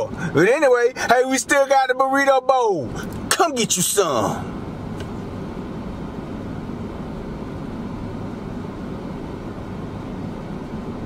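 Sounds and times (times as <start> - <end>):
air-conditioning blower: 0.0 - 11.0.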